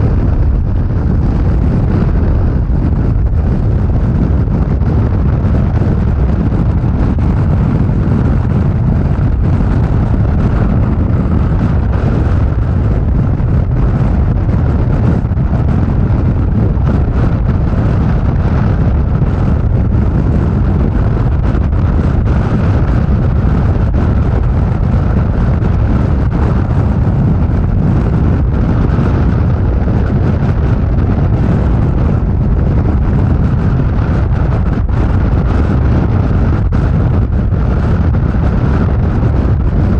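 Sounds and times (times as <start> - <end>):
motorcycle engine: 0.0 - 39.9
road noise: 0.0 - 39.9
wind buffeting microphone: 0.0 - 39.9.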